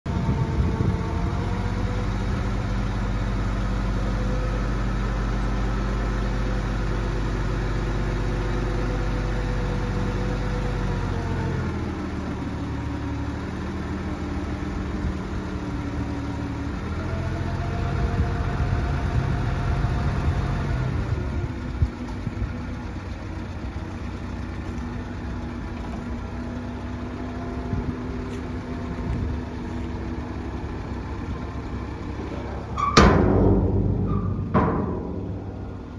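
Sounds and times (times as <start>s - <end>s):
engine running: 0.1s - 35.9s.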